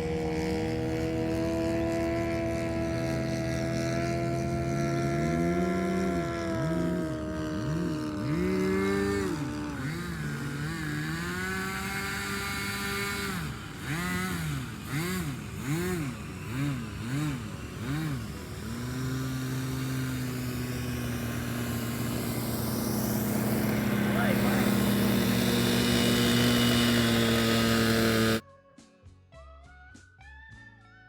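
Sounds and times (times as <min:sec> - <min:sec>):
model plane propeller motor: 0:00.0 - 0:28.4.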